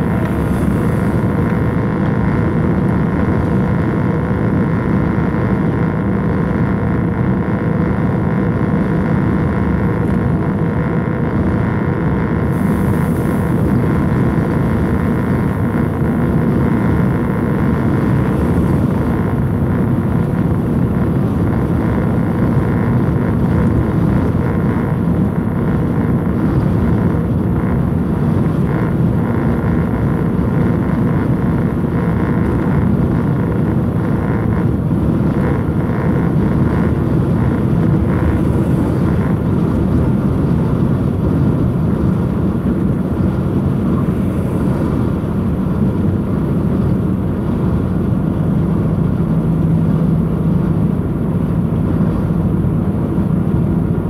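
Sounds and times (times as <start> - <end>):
truck engine drone: 0.0 - 54.0.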